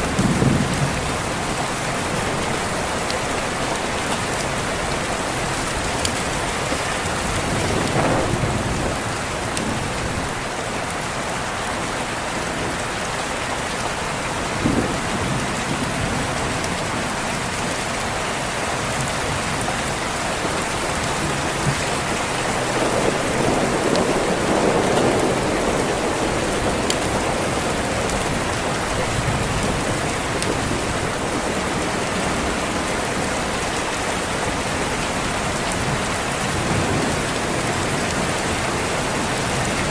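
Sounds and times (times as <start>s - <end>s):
low rumble of thunder: 0.0s - 3.4s, 4.2s - 10.5s, 14.4s - 17.6s, 18.9s - 39.9s
rain on a window: 0.0s - 39.9s.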